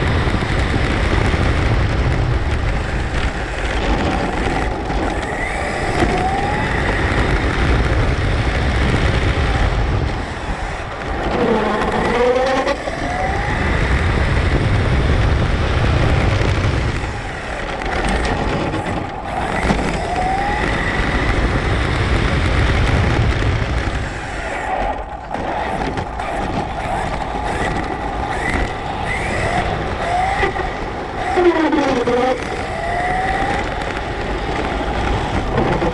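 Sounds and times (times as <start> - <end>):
electric motor whine: 0.0 - 25.0, 25.6 - 35.9
tyres and wind rumble: 0.0 - 35.9.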